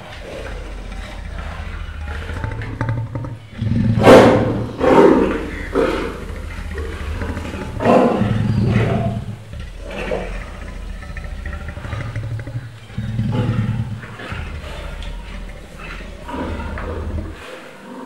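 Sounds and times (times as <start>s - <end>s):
lion chewing meat: 0.0s - 17.7s
lion growling: 0.0s - 18.0s.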